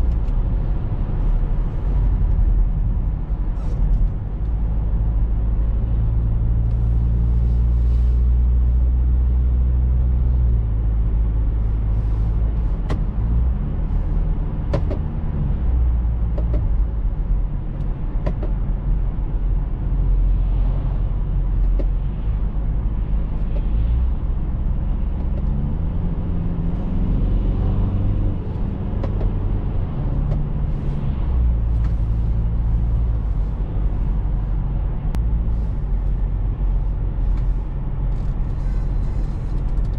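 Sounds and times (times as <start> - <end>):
car engine drone: 0.0 - 39.9
tyre and road noise: 0.0 - 39.9.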